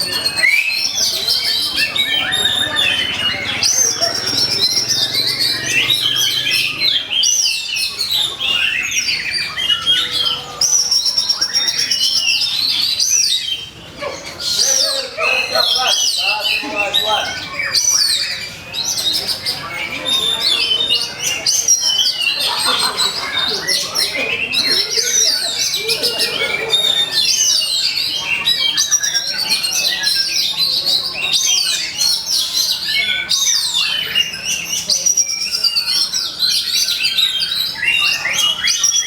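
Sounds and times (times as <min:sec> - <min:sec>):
magpie-robin singing: 0:00.0 - 0:39.0.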